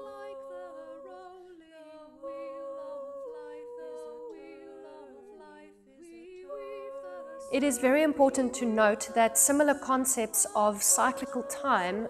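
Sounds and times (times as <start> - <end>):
female voices humming in harmony: 0.0 - 12.0.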